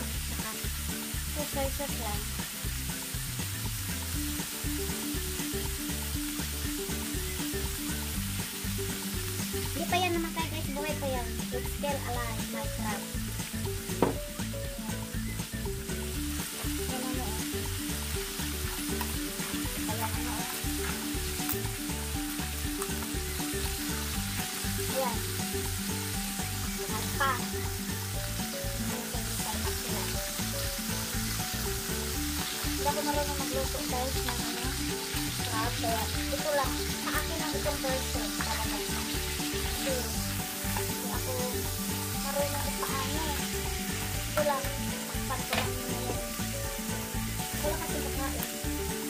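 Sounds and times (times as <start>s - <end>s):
sizzle and steam hiss: 0.0s - 49.0s.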